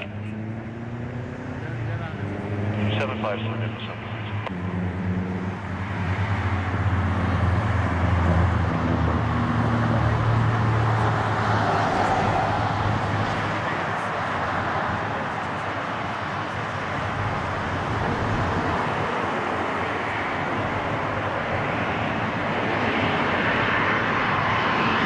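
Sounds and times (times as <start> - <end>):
jet airliner engines rushing: 0.0 - 25.0
low vehicle engine hum: 0.0 - 25.0.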